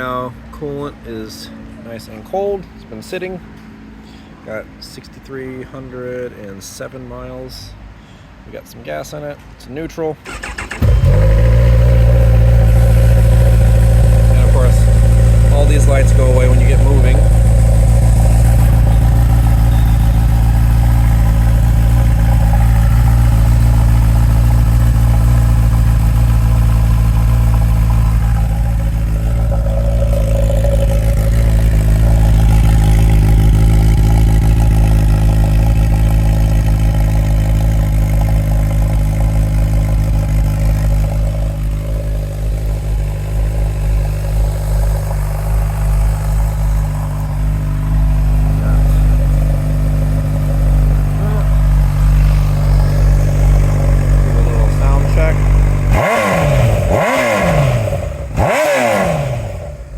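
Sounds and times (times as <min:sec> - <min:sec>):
motorcycle engine idling: 0:10.2 - 0:59.9.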